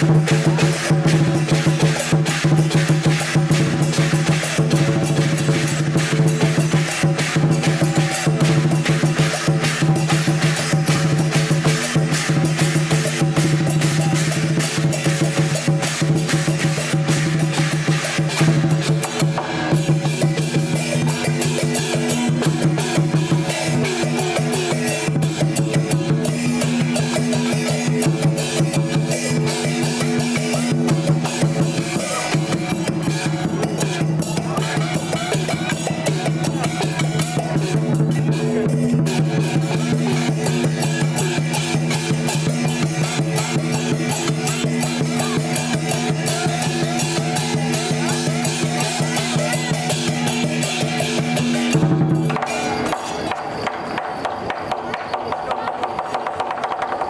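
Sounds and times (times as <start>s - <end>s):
percussion band drums and gongs: 0.0s - 57.0s.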